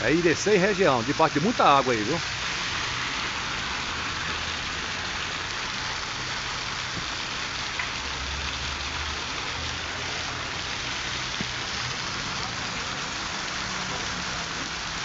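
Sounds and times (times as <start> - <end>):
heavy rain on pavement: 0.0 - 15.0
water pouring off roof: 0.0 - 15.0.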